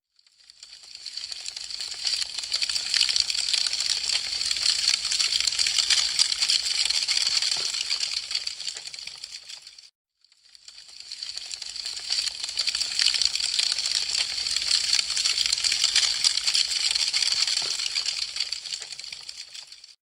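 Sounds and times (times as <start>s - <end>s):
wood fire crackling: 0.3s - 9.9s, 10.6s - 19.9s.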